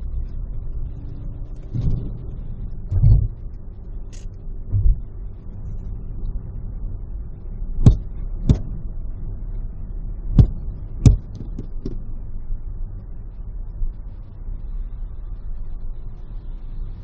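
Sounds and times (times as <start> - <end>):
car rumbling on freeway: 0.0 - 17.0.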